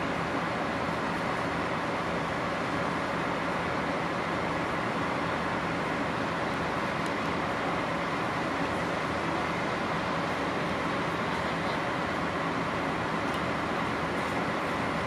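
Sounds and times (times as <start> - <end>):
locomotive engine idling: 0.0 - 15.0.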